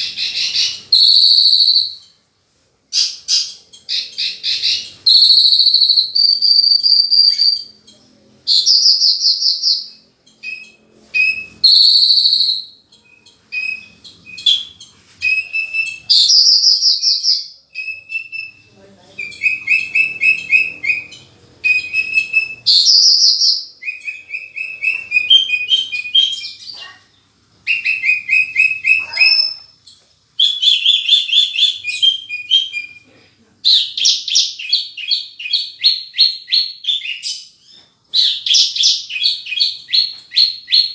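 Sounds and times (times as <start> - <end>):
bird singing trills and whistles: 0.0 - 2.1, 2.9 - 27.0, 27.7 - 29.8, 30.4 - 33.0, 33.7 - 40.9.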